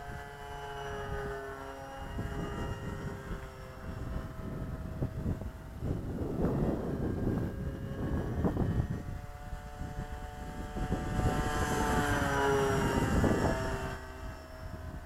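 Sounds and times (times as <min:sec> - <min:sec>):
model plane motor whining: 0:00.0 - 0:15.0
wind on microphone: 0:00.0 - 0:15.0.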